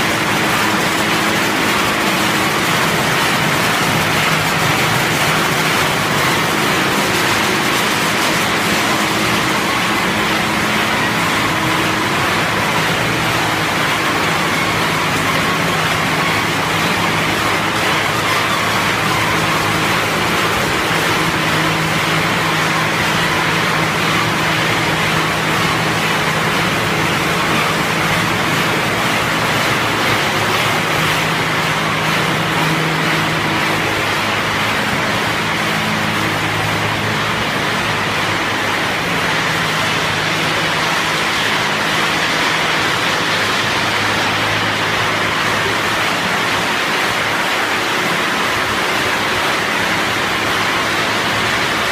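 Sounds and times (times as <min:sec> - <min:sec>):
machinery rushing noise: 0:00.0 - 0:51.9.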